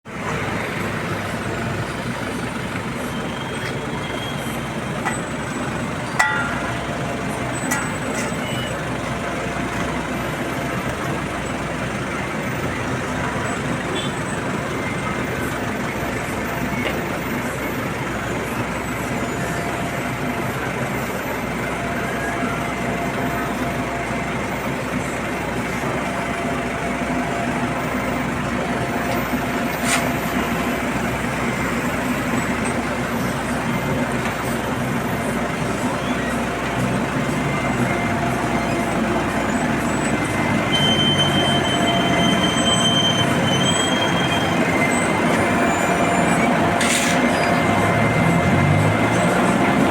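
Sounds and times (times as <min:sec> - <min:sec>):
road-paving machinery running: 0:00.0 - 0:49.9.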